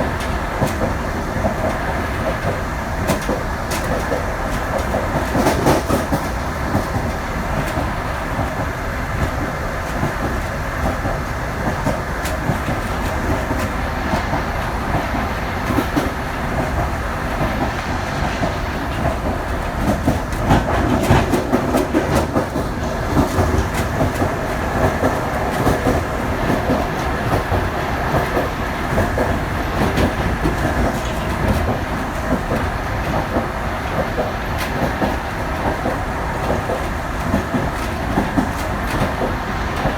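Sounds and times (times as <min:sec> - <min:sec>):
train rumbling on track: 0:00.0 - 0:39.9
wheels clattering over rail joints: 0:00.0 - 0:39.9.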